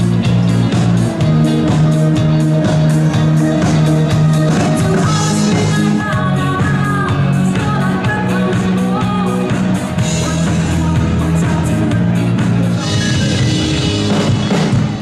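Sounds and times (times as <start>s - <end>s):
pop-rock music with steady beat: 0.0s - 15.0s.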